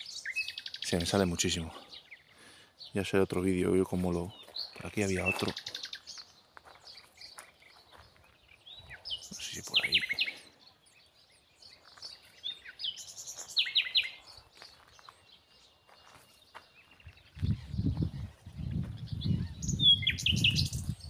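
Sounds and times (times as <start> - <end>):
small songbird twittering: 0.0 - 3.1, 4.3 - 21.0.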